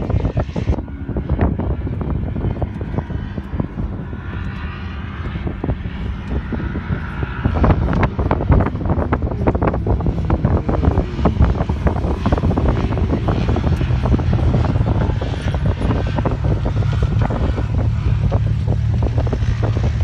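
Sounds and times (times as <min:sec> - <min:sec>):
off-road vehicle engines revving: 0:00.0 - 0:20.0.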